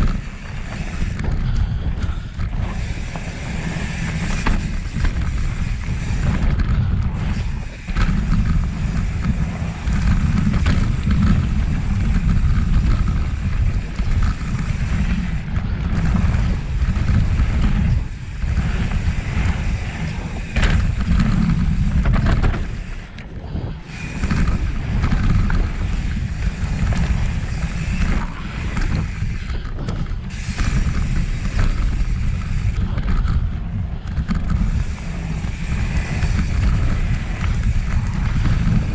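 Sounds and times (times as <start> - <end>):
bike clicks and knocks: 0.0 - 38.9
bike tyre noise: 0.0 - 38.9
low rumble: 0.0 - 38.9
wind buffeting microphone: 0.0 - 38.9.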